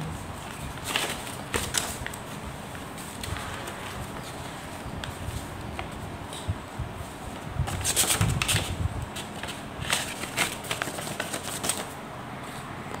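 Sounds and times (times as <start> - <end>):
paper rustling: 0.4 - 6.5, 7.3 - 12.6.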